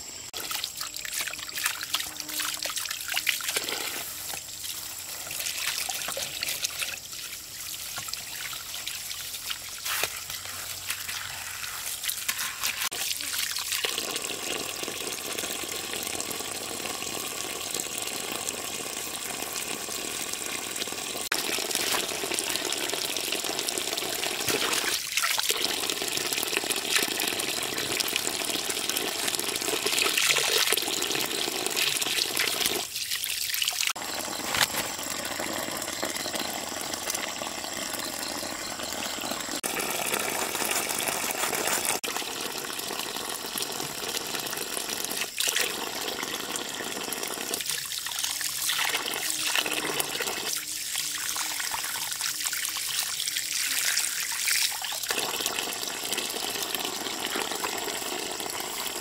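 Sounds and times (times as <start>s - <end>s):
water pouring from pipe splashing: 0.4s - 59.0s.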